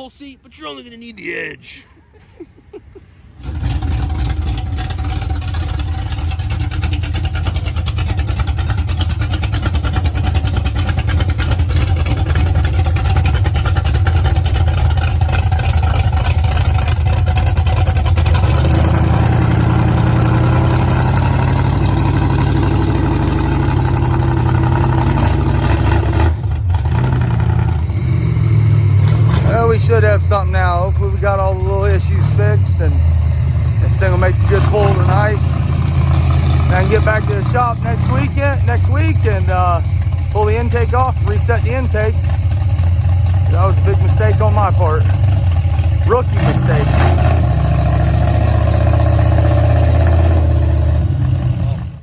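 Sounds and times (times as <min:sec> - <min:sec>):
truck engine starting and running: 0:00.0 - 0:52.0.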